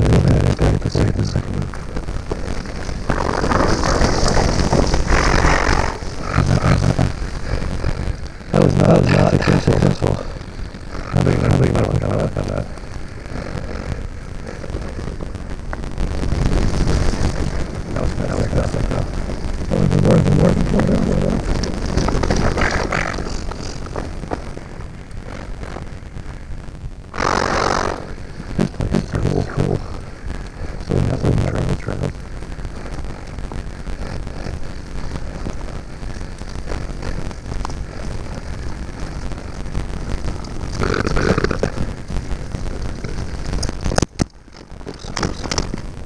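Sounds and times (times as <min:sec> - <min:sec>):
loud rustling hiss: 0:00.0 - 0:45.9
bike riding rumble: 0:00.0 - 0:46.0.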